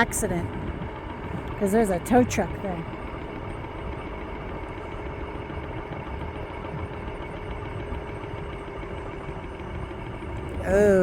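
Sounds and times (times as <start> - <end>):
faint electric motor whine: 0.0 - 11.0
wheels rumbling on pavement: 0.0 - 11.0.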